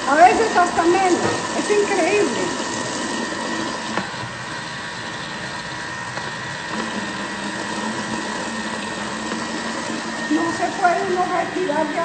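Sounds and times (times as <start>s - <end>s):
kitchen machine motor whining: 0.0s - 12.0s.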